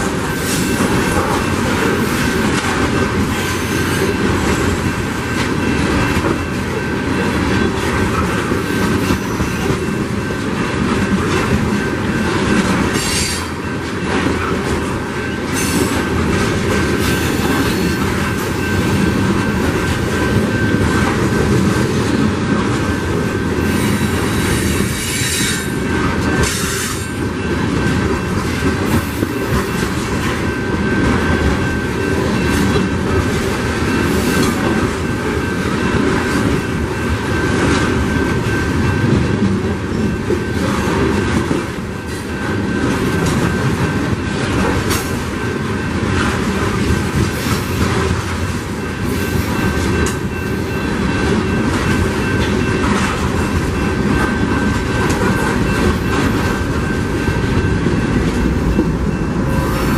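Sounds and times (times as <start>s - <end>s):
train wheels rumbling and rattling: 0.0s - 59.9s.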